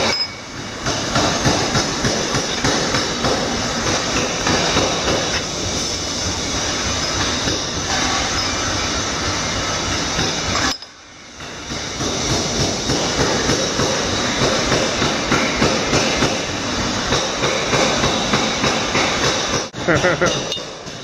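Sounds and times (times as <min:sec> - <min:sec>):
clattering workshop machinery: 0:00.0 - 0:21.0.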